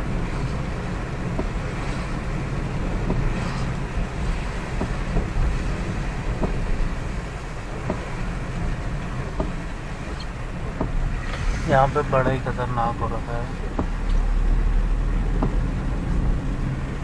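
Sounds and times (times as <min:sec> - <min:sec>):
engine and road rumble: 0:00.0 - 0:17.0
rain hiss: 0:00.0 - 0:17.0.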